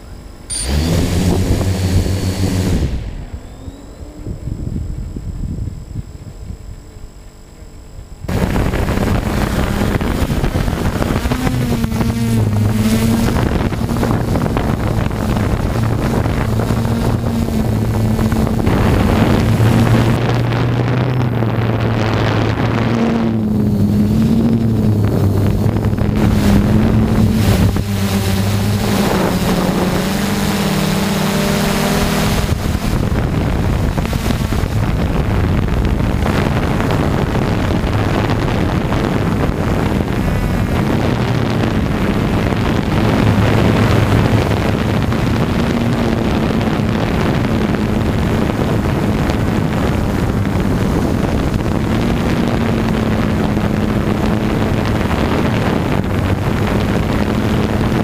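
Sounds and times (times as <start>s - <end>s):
drone motors and propellers droning: 0.0s - 58.0s
wind rushing over microphone: 0.0s - 58.0s.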